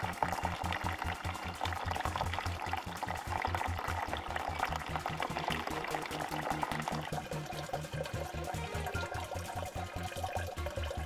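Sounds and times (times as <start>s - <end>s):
water stream splashing into tub: 0.0s - 11.0s.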